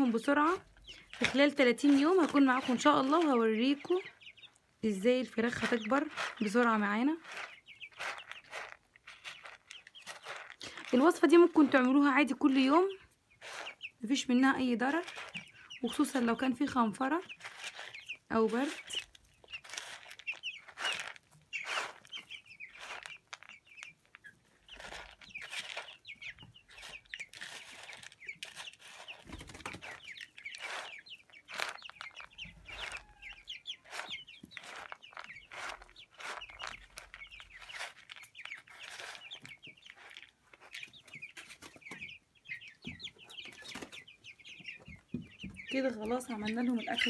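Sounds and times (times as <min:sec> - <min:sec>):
chicks peeping: 0:00.0 - 0:47.0
feed pellets stirred in a bowl: 0:00.4 - 0:03.9, 0:05.4 - 0:12.8, 0:13.4 - 0:40.9.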